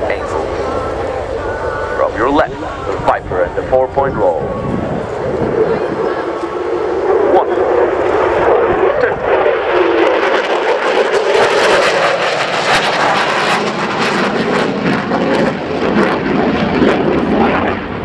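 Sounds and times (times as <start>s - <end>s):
jet fighter engine roar: 0.0s - 18.0s.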